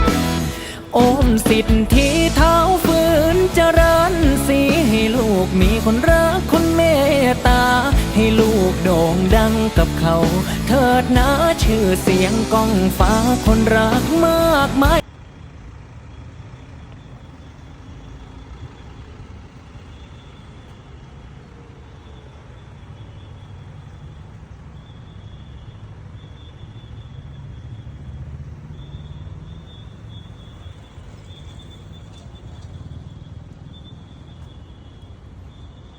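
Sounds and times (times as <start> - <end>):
low rumble of road traffic: 0.0 - 35.9.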